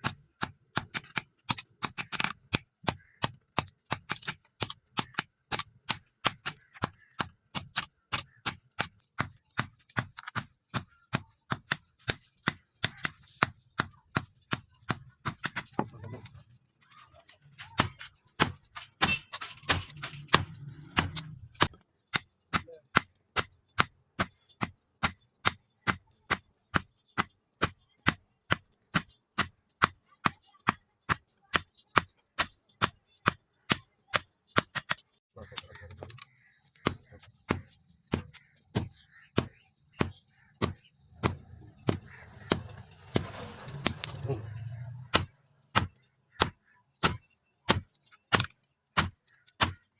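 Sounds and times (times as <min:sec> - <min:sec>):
hammer striking steel on anvil: 0:00.0 - 0:15.9, 0:17.7 - 0:35.0, 0:37.6 - 0:44.3, 0:45.1 - 0:49.9.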